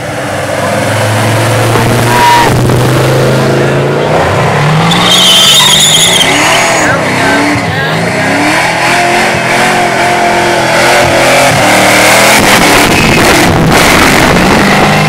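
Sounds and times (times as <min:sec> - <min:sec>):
car revving and accelerating away: 0:00.0 - 0:15.0.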